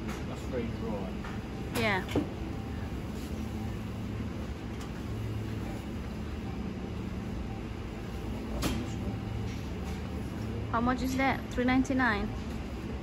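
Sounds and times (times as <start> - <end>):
refrigerator and ventilation hum: 0.0 - 13.0.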